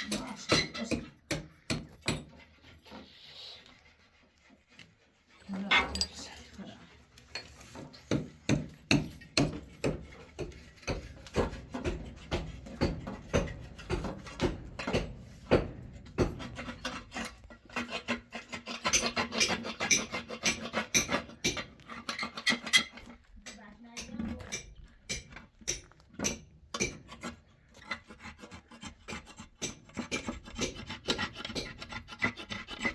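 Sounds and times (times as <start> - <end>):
hand tool scraping: 0.0 - 32.9.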